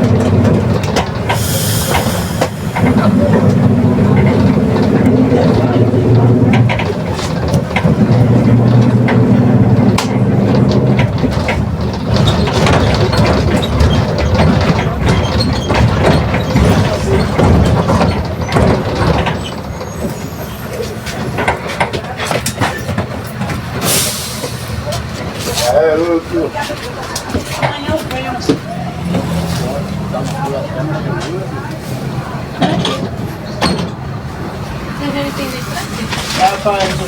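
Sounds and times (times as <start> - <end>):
bus body rattling and clicking: 0.0 - 37.0
bus drivetrain drone: 0.0 - 37.0.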